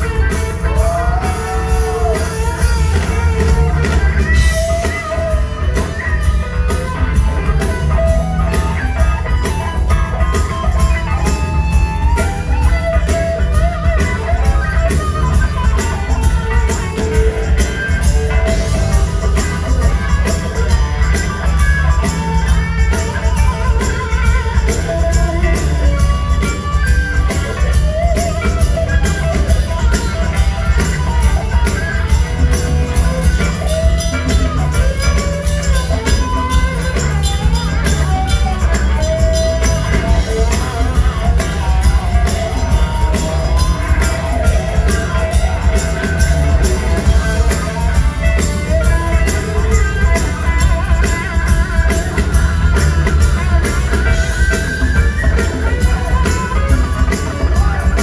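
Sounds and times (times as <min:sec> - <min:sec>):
live rock band playing: 0:00.0 - 0:58.0
melodic lead line: 0:00.0 - 0:58.0.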